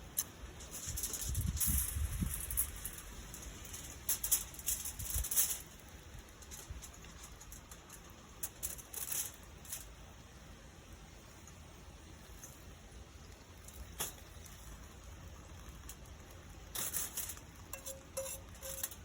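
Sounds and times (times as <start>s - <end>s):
campfire cooking crackling: 0.0s - 19.0s.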